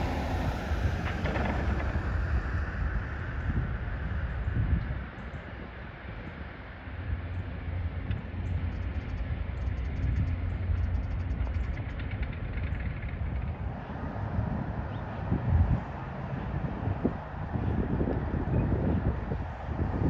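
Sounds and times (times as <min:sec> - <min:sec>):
distant engine rumble: 0:00.0 - 0:20.0.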